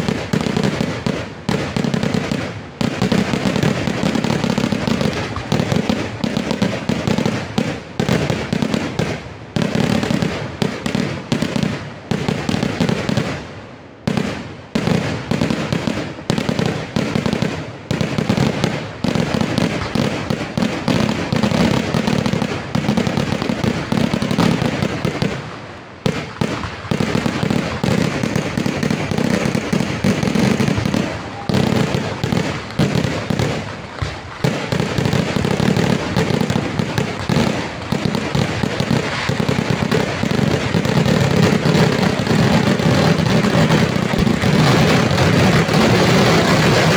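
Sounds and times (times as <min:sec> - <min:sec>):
fireworks loud bangs: 0:00.0 - 0:46.9.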